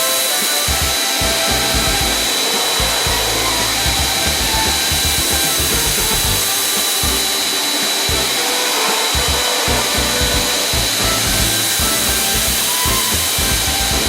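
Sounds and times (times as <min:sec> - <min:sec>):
high whine: 0:00.0 - 0:14.0
pressure washer spraying water: 0:00.0 - 0:14.0.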